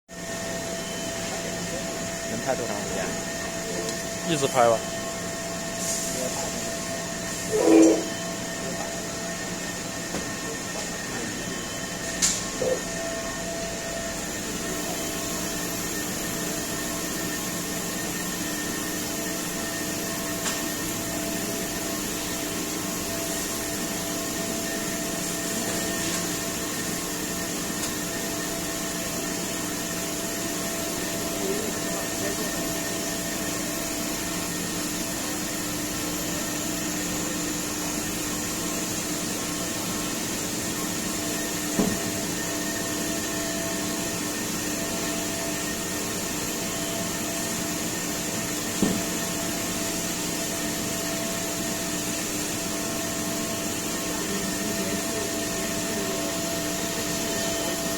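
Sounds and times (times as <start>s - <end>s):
washing machine whirring: 0.1s - 57.9s.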